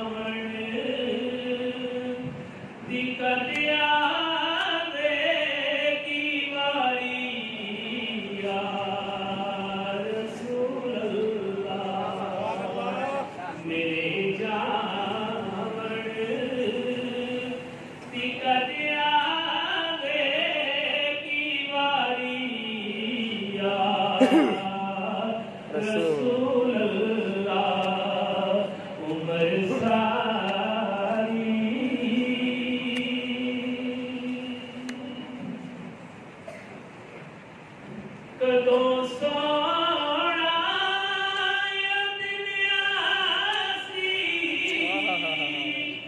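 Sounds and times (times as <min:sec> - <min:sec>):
man singing unaccompanied: 0:00.0 - 0:35.8, 0:38.4 - 0:46.0.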